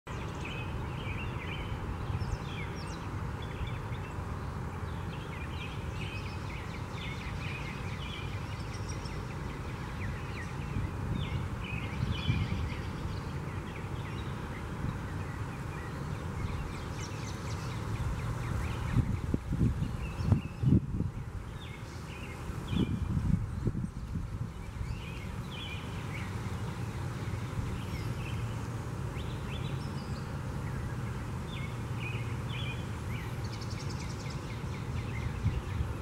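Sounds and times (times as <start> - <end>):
birds chirping: 0.1 - 36.0.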